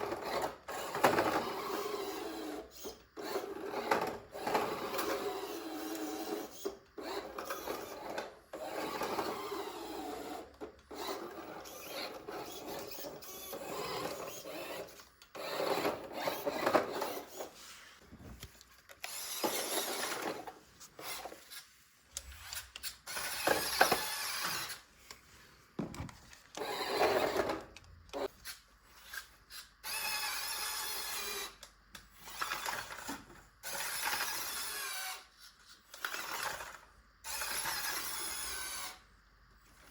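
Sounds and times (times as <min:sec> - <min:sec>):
toy car motor whirring: 0:00.0 - 0:18.0, 0:18.9 - 0:24.9, 0:26.5 - 0:39.1
toy car rubbing and rattling: 0:00.0 - 0:18.0, 0:19.0 - 0:24.9, 0:26.6 - 0:31.6, 0:32.2 - 0:39.1.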